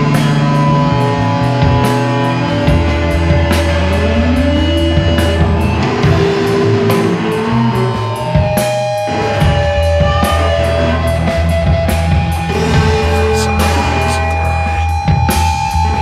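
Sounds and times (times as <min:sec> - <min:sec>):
drum kit: 0:00.0 - 0:16.0
electric guitars: 0:00.0 - 0:16.0
heavy bass line: 0:00.0 - 0:16.0.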